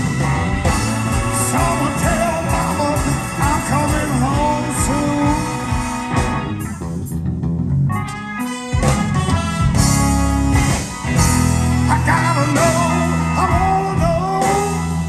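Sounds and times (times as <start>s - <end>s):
blues-rock band playing: 0.0s - 15.0s.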